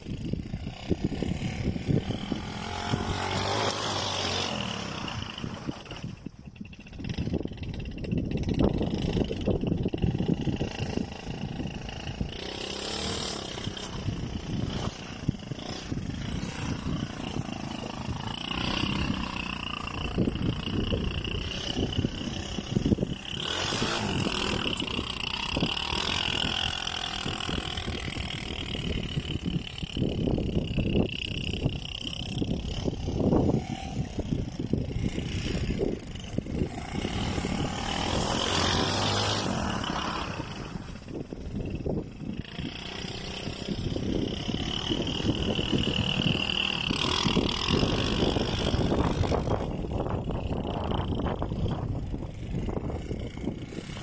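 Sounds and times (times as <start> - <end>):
small quad engine revving: 0.0 - 54.0.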